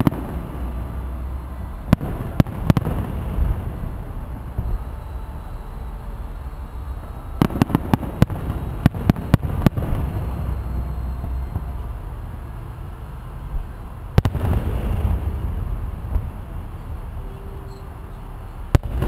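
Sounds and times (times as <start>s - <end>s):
fireworks bangs: 0.0s - 19.0s
low rumble: 0.0s - 19.0s.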